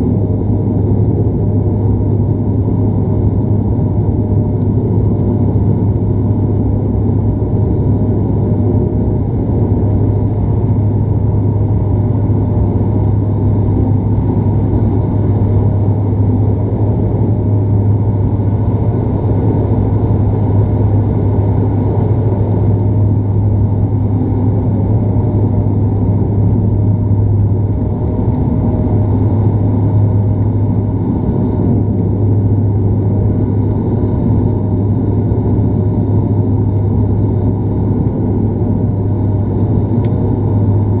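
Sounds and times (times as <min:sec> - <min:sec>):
engine and airflow rumble: 0:00.0 - 0:41.0
propeller drone: 0:00.0 - 0:41.0.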